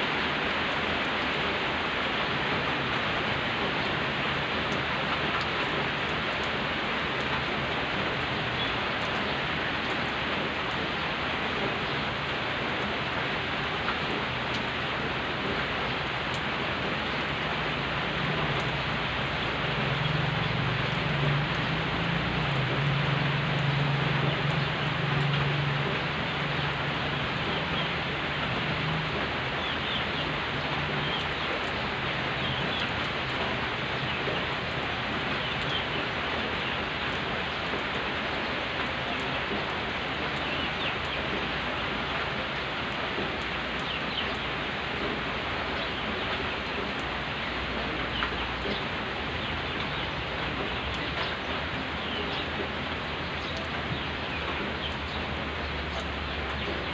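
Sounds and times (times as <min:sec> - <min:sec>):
rain on gravel and leaves: 0:00.0 - 0:56.9.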